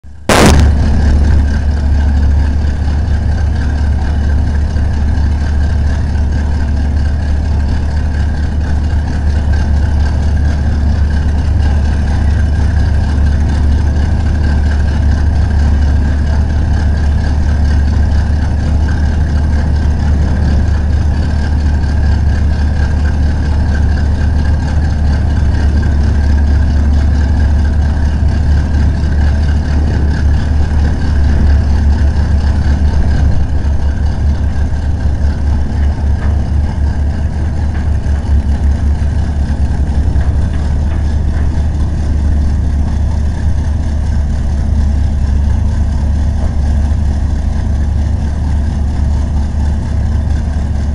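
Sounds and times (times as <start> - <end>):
dragster engine idling: 0.0 - 50.9.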